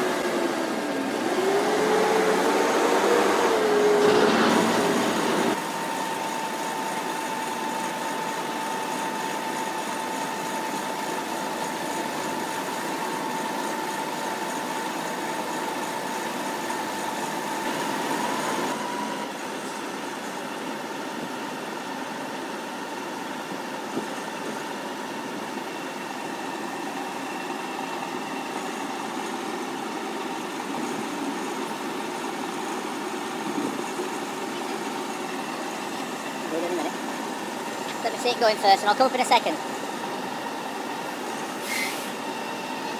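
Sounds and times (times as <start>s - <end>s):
hydraulic high whine: 0.0s - 42.9s
tractor engine running: 0.0s - 42.9s.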